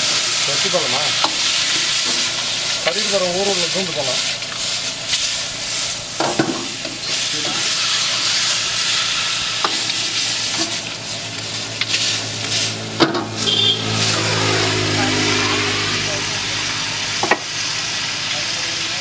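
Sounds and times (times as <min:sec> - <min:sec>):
chicken sizzling in hot oil: 0:00.0 - 0:19.0
metal spatula scraping wok: 0:01.1 - 0:16.7.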